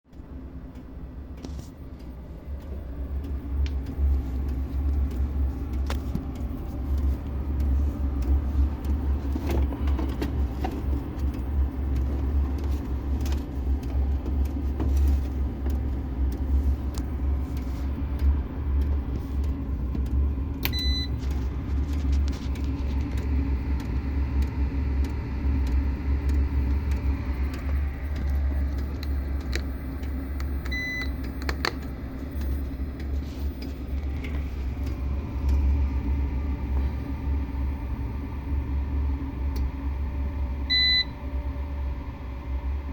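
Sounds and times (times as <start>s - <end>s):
air heater rumbling: 0.1s - 42.9s.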